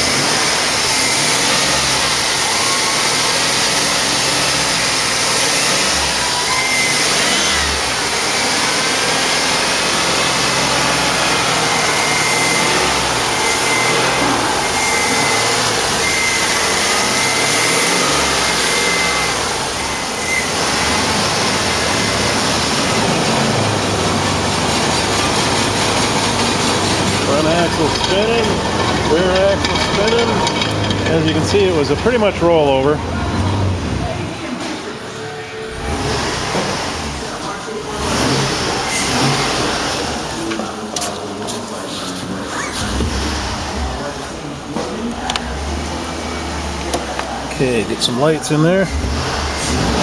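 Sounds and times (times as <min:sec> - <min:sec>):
high mechanical whine: 0:00.0 - 0:41.3
truck engine running in gear: 0:00.0 - 0:50.0.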